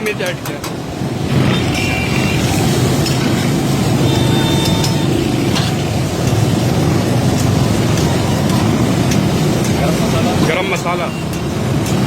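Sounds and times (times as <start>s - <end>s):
loud steady low rumble: 0.8s - 10.5s.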